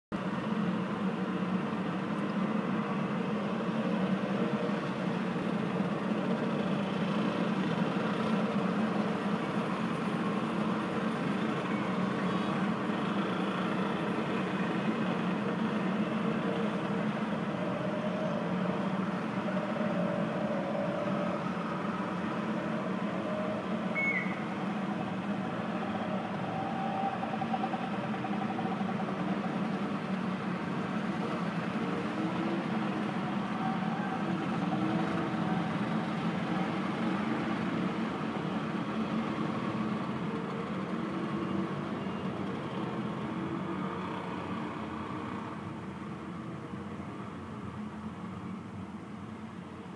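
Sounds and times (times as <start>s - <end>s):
muffled street traffic hum: 0.1s - 49.9s.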